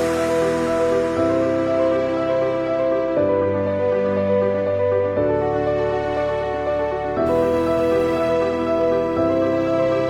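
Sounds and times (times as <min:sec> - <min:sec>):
slow held chords music: 0:00.0 - 0:10.0.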